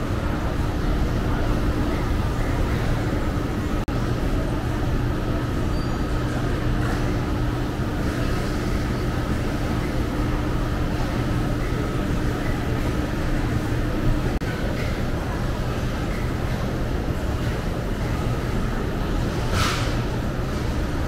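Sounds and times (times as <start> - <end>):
indistinct chatter of diners: 0.0 - 21.0
ventilation fans droning: 0.0 - 21.0.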